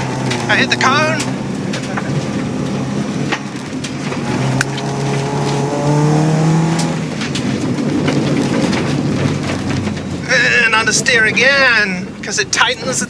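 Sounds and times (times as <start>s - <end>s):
debris striking car: 0.0s - 13.0s
rally car engine pulling hard: 0.0s - 13.0s.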